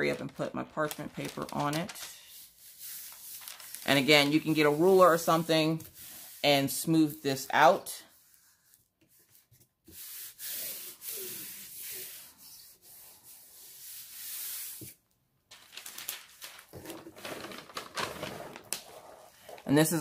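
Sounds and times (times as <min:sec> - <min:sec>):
parchment paper rustling: 0:00.0 - 0:20.0.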